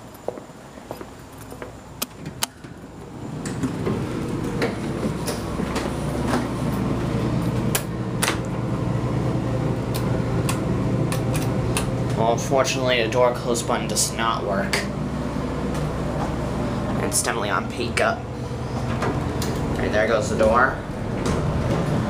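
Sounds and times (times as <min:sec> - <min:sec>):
elevator hum: 0:00.0 - 0:22.0.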